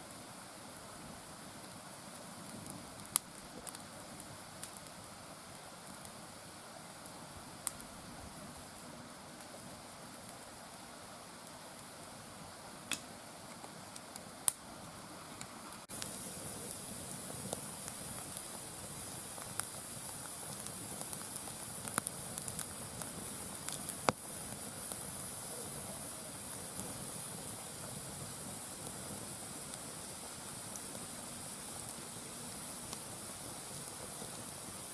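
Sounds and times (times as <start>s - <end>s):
fire hissing: 0.0s - 34.9s
firewood crackling and popping: 1.2s - 34.9s.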